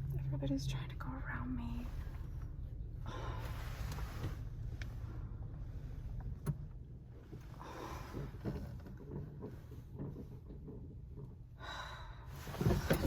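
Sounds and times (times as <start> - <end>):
low mechanical hum of car: 0.0 - 13.0.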